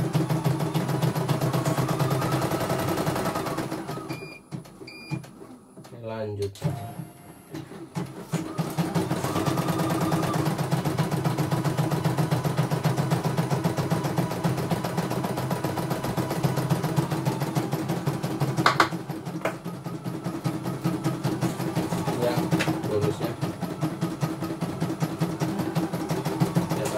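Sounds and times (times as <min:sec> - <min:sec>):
motor hum: 0:00.0 - 0:26.9.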